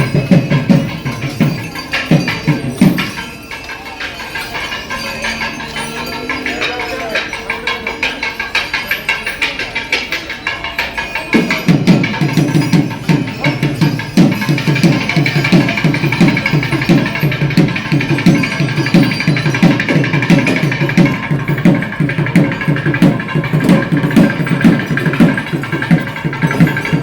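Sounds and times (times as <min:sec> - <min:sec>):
fast loud drumming: 0:00.0 - 0:27.0
ringing high tones: 0:00.0 - 0:27.0.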